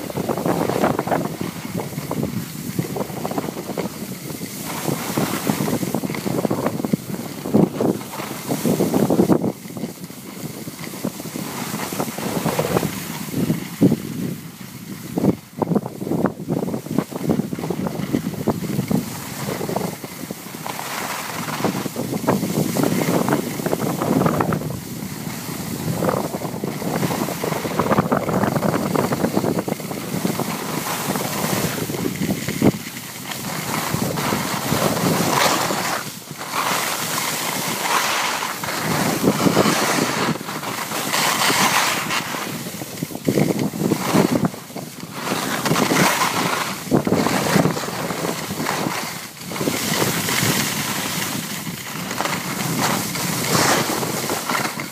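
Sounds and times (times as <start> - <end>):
skis hissing over snow: 0.0 - 54.9
wind buffeting microphone: 0.0 - 54.9.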